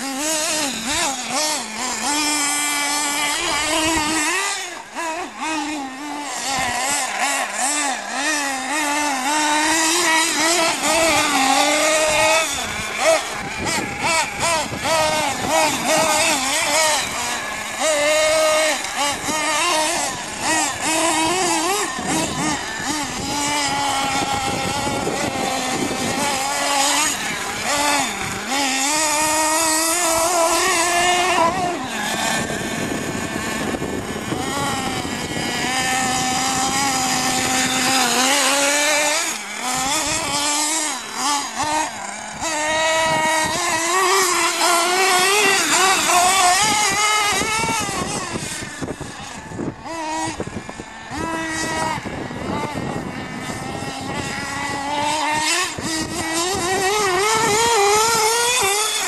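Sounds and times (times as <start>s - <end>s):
toy truck engine buzzing: 0.0s - 59.0s.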